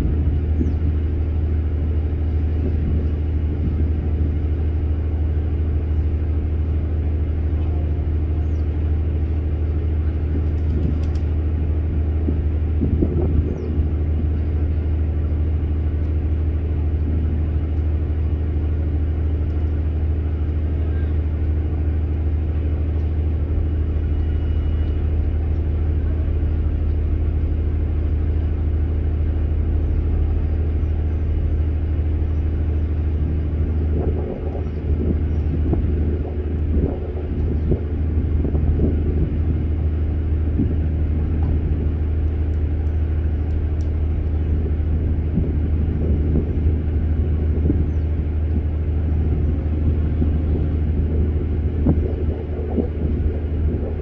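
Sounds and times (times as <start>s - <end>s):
low engine rumble: 0.0s - 54.0s.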